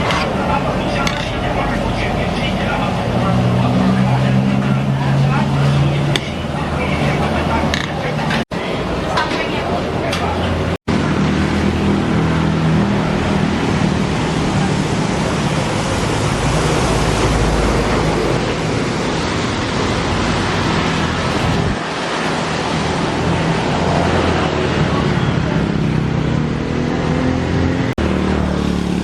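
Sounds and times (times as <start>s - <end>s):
loud rushing noise: 0.0s - 29.0s.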